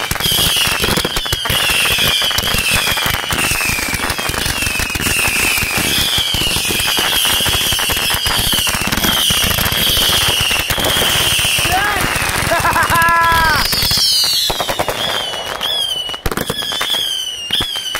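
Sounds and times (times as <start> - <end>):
fireworks cracks and pops: 0.0 - 17.9
high falling firework whistle: 0.2 - 17.9.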